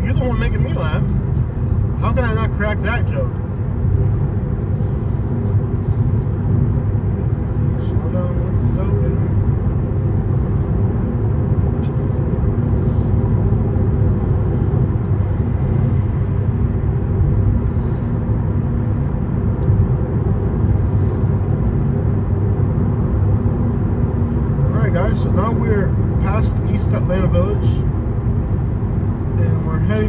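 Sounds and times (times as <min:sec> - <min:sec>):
car cabin road and engine rumble: 0:00.0 - 0:30.0.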